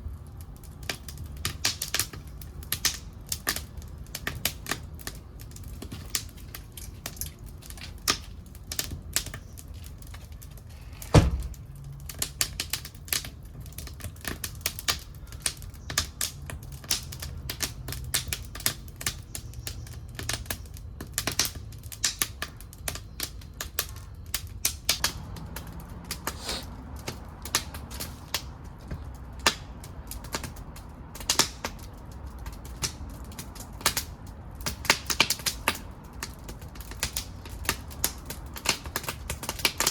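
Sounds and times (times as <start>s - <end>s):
flames rumbling: 0.0s - 39.9s
wood fire crackling and popping: 0.0s - 39.9s.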